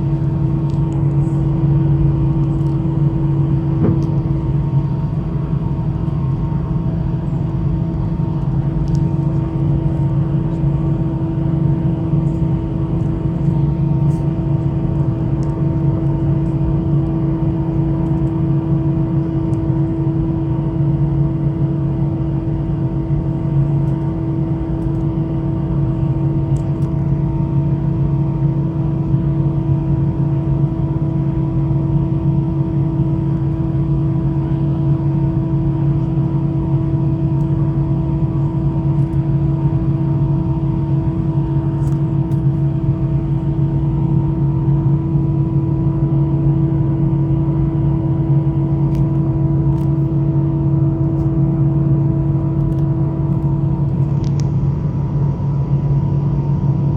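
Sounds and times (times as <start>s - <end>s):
jet engines droning: 0.0s - 56.9s.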